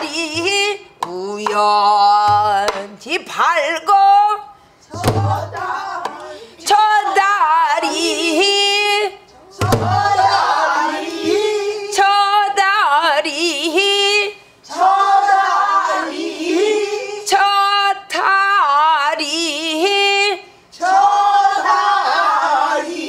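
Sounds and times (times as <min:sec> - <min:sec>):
woman singing with vibrato: 0:00.0 - 0:21.5.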